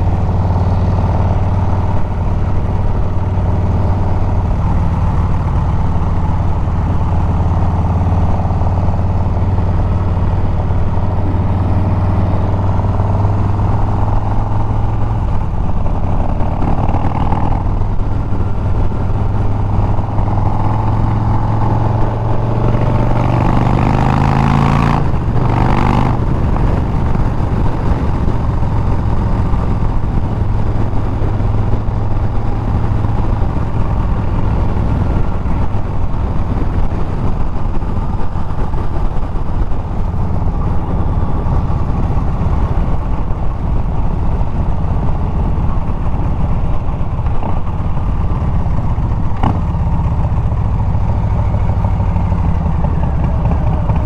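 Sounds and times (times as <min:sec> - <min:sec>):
motorcycle engine while riding: 0:00.0 - 0:54.0
wind and road noise: 0:00.0 - 0:54.0.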